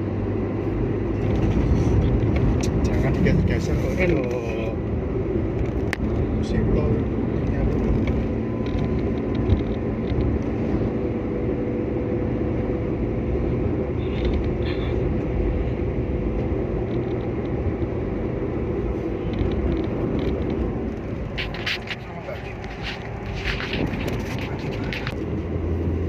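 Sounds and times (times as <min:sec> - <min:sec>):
engine and tyre rumble: 0:00.0 - 0:26.0.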